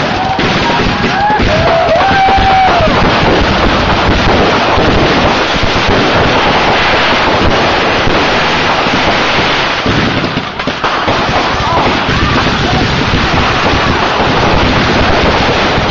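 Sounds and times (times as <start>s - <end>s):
fireworks crackling: 0.0s - 15.9s.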